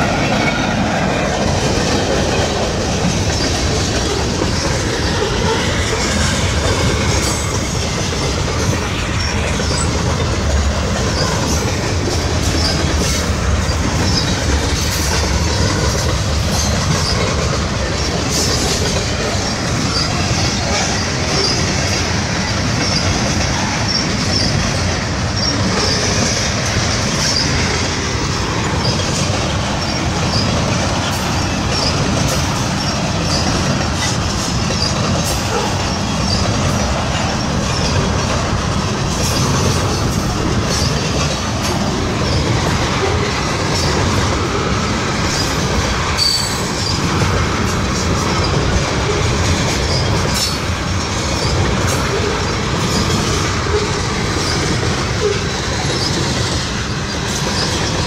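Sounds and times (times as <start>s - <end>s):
train wheels clattering over rails: 0.0s - 58.0s
high wheel squeaks: 1.8s - 58.0s.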